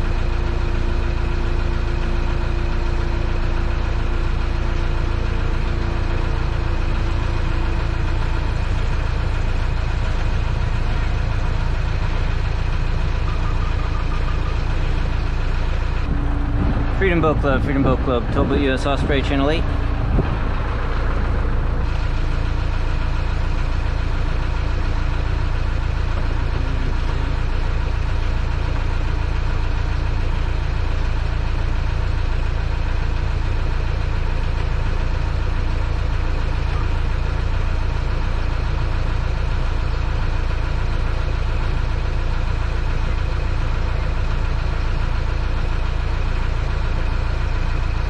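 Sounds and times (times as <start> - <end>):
motorboat engine droning: 0.0 - 48.0.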